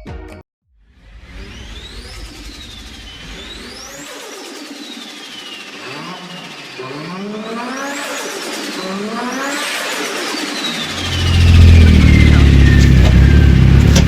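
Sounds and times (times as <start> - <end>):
high whine: 0.9 - 14.0
car engine accelerating: 1.0 - 14.0.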